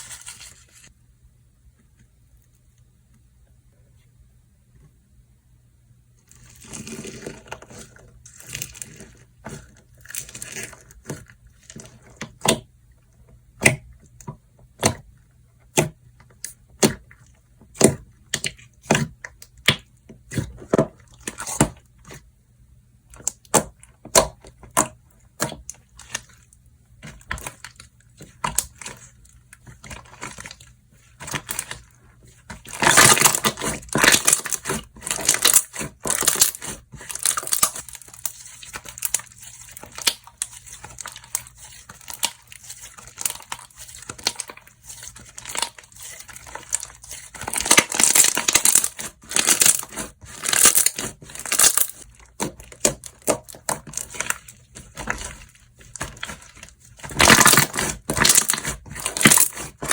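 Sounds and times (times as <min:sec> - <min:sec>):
slime squishing and stretching: 0:06.3 - 0:12.7, 0:14.7 - 0:22.3, 0:23.1 - 0:59.9.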